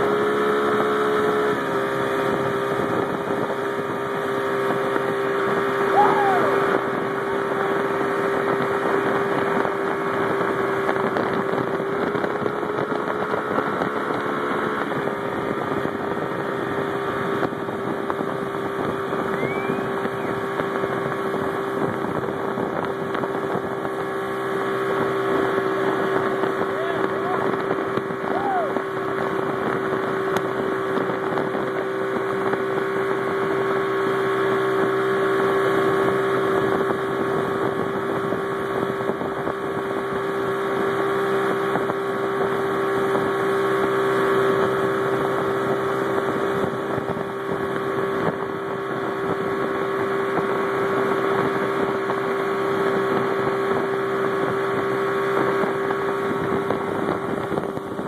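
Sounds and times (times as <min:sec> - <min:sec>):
churning wake rushing: 0:00.0 - 0:58.0
motorboat engine droning: 0:00.0 - 0:58.0
wind on microphone: 0:00.7 - 0:58.0.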